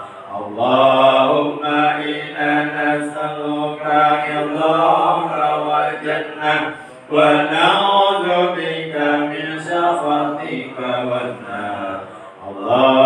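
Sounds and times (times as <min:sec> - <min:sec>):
voices chanting: 0:00.0 - 0:13.0.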